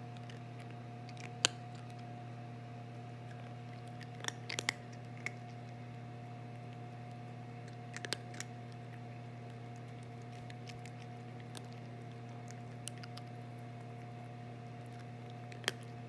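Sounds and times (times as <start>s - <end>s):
cat crunching dry treats: 0.0s - 2.2s, 3.0s - 16.0s
low background hum: 0.0s - 16.0s.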